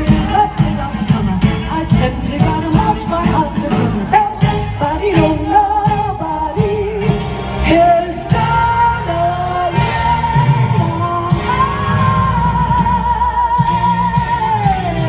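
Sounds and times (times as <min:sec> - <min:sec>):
band accompaniment: 0:00.0 - 0:15.0
person singing with vibrato: 0:00.0 - 0:15.0.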